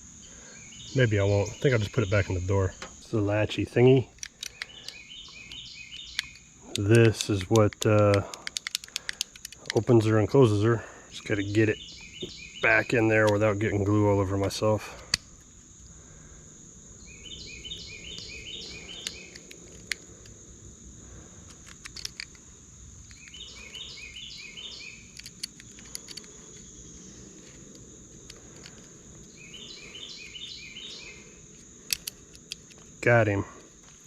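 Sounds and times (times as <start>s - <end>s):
high insect trill: 0.0s - 34.0s
songbird singing: 0.0s - 34.0s.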